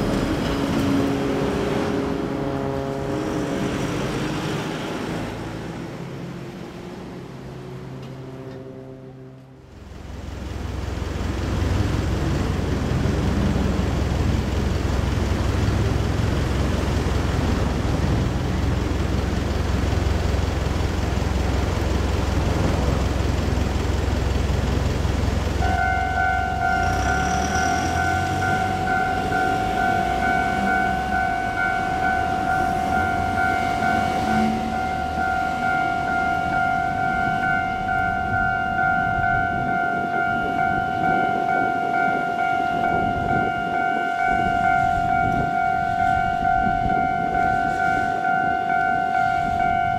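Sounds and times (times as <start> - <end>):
level crossing warning bell: 9.8 - 49.9.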